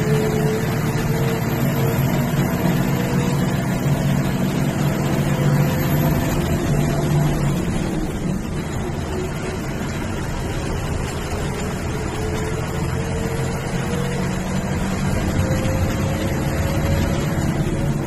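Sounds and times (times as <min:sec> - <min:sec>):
bus engine running: 0:00.0 - 0:18.0
road noise: 0:00.0 - 0:18.0.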